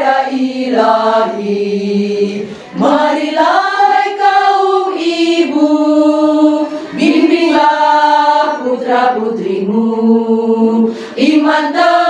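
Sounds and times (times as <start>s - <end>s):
women's choir singing: 0.0s - 12.0s.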